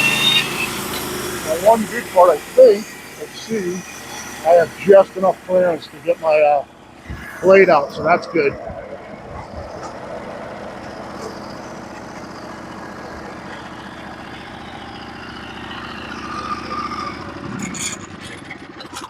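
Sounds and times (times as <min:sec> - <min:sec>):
bandsaw mill running: 0:00.0 - 0:19.0.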